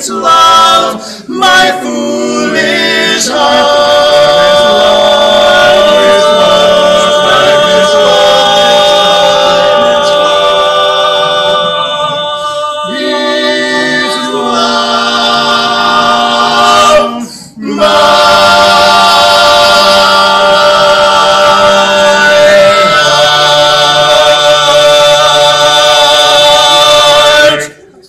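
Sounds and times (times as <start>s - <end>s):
male vocal quartet singing: 0.0s - 27.9s.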